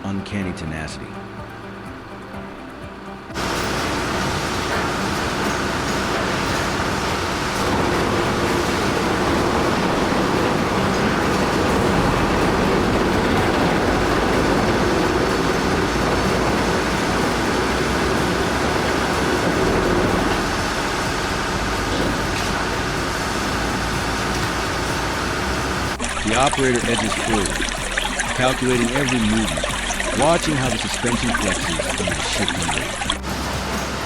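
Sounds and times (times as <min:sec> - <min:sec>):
wheel loader engine rumble: 0:01.2 - 0:34.0.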